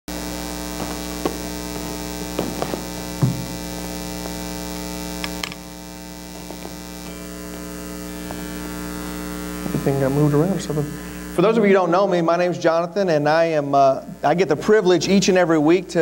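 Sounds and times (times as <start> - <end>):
electrical mains hum: 0.1 - 16.0.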